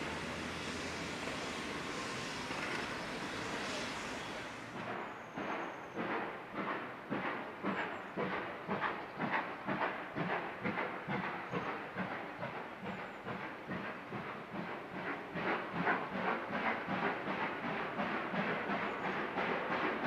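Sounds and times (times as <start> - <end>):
steam hiss: 0.0 - 20.0
steam locomotive exhaust beats: 0.0 - 20.0.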